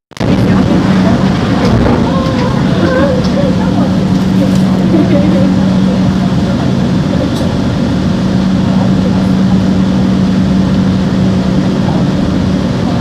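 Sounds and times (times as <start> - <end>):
stopped train humming: 0.1 - 13.0.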